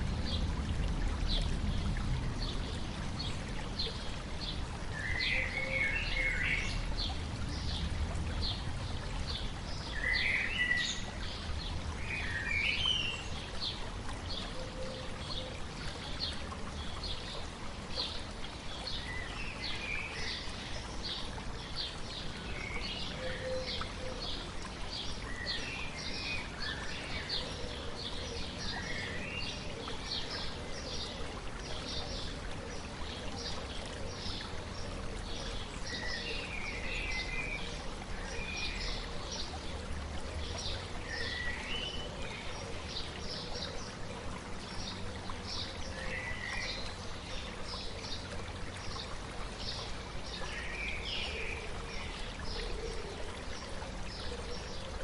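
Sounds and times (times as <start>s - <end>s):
babbling stream: 0.0s - 55.0s.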